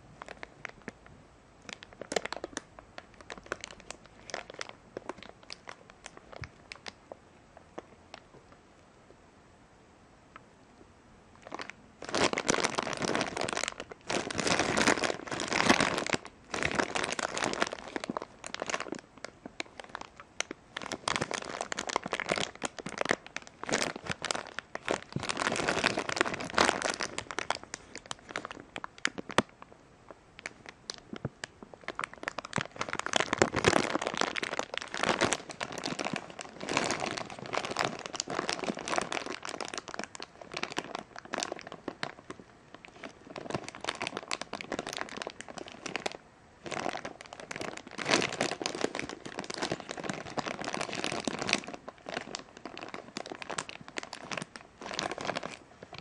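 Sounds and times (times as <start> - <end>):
plastic bag crinkling: 0.0 - 1.0, 1.6 - 7.1, 11.4 - 29.7, 30.4 - 56.0.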